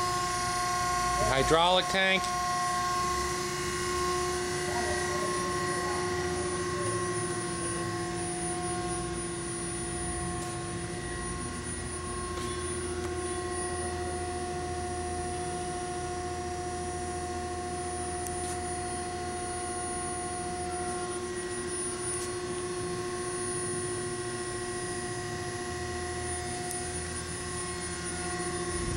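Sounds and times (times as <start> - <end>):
hydraulic pump motor hum: 0.0 - 28.9.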